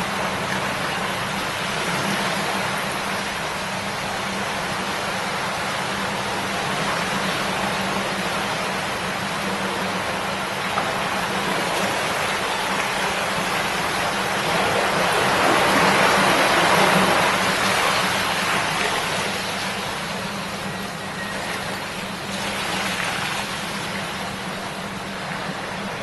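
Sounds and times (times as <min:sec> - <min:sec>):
river babbling over stones: 0:00.0 - 0:26.0.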